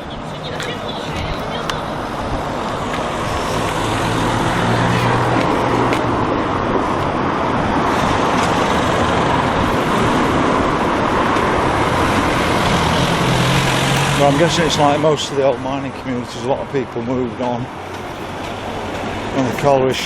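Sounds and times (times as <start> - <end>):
road traffic rushing: 0.0 - 20.0
vehicle low engine hum: 0.0 - 20.0.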